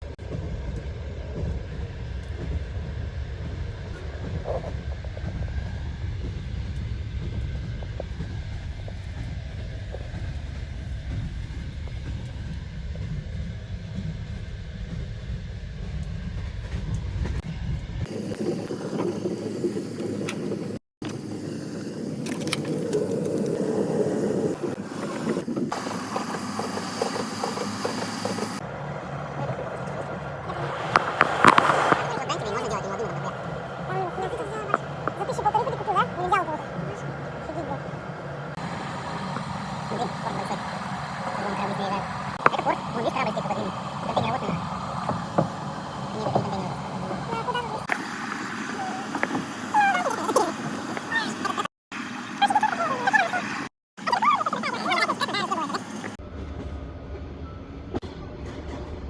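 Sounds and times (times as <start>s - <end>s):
train rattle: 0.0s - 53.4s, 54.0s - 59.0s
train rumble inside carriage: 0.0s - 53.4s, 54.0s - 59.0s.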